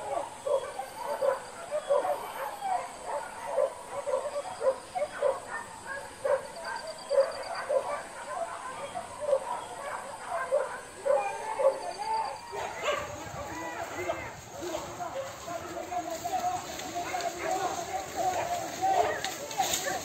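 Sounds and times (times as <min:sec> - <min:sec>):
dogs yelping and barking: 0:00.0 - 0:20.0.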